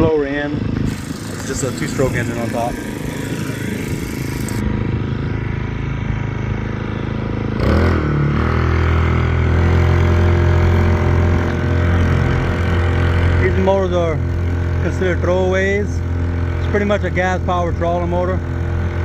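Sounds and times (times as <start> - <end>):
outboard motor running: 0.4 - 7.6, 9.0 - 19.0.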